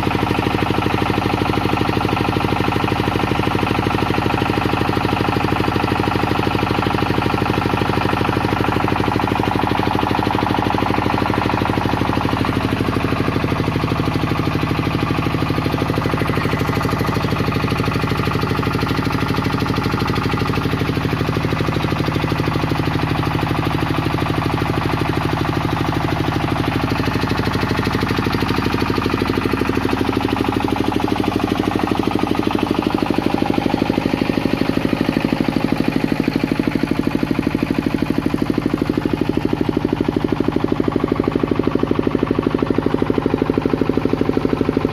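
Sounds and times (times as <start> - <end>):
diesel generator engine running: 0.0 - 44.9.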